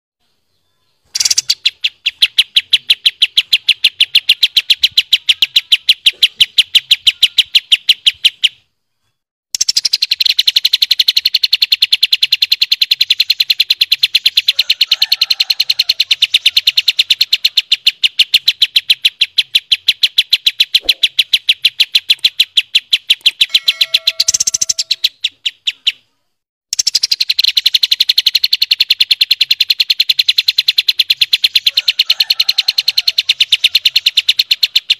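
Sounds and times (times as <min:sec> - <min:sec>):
songbird rapid-fire trill: 0:01.0 - 0:08.6, 0:09.5 - 0:26.1, 0:26.7 - 0:34.9.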